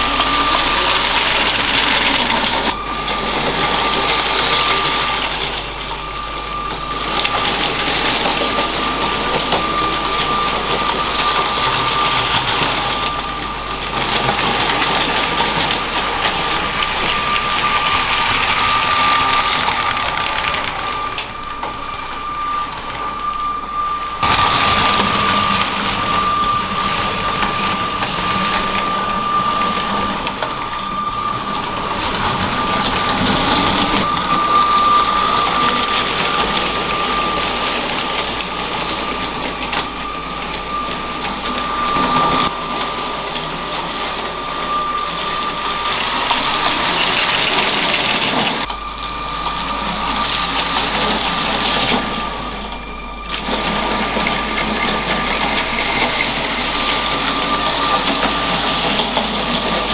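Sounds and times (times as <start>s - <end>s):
plastic wheels rattling on track: 0.0s - 59.9s
toy train motor whining: 0.0s - 59.9s.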